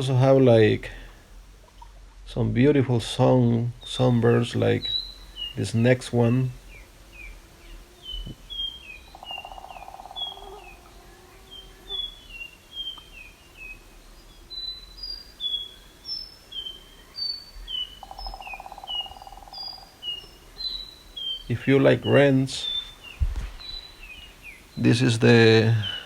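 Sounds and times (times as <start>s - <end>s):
low buzzing bird trill: 0.0s - 2.0s, 3.3s - 26.0s
songbirds chirping: 0.0s - 26.0s.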